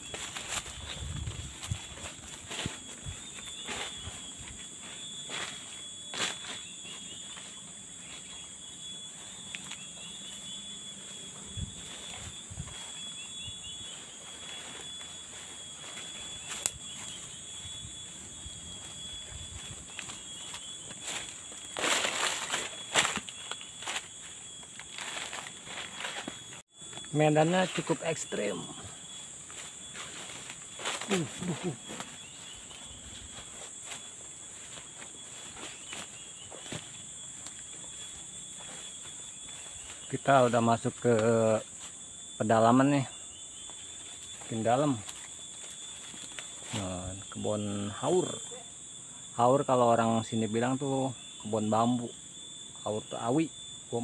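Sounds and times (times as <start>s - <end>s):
small rising chirps: 0.0s - 47.4s
footsteps crunching leaves and twigs: 0.0s - 48.6s
insects droning: 0.0s - 54.0s.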